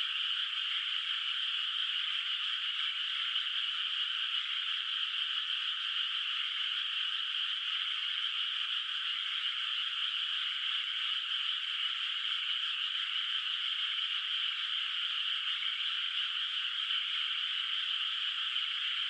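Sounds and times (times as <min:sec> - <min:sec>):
chorus of frogs calling: 0:00.0 - 0:19.0.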